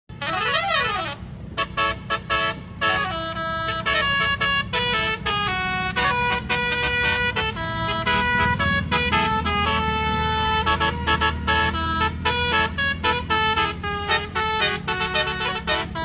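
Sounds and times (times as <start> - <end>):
bus engine running: 0.1 - 16.0
bus horns playing a melody: 0.1 - 16.0.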